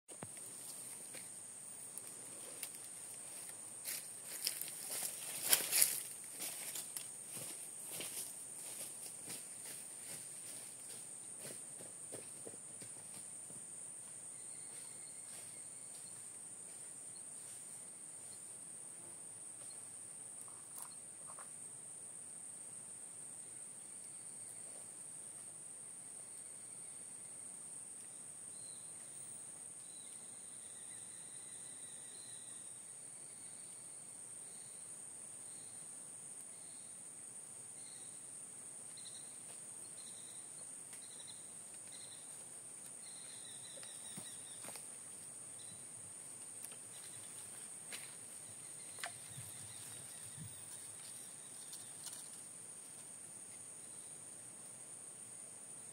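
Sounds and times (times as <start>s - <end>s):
insects droning: 0.1s - 55.9s.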